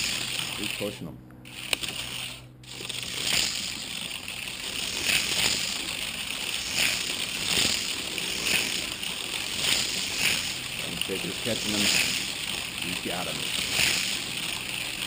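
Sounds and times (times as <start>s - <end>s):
toy cars whirring on track: 0.0s - 15.0s.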